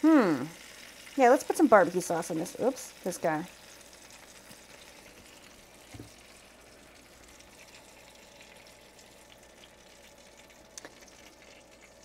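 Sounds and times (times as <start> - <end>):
roast chicken sizzling on tray: 0.0 - 12.0.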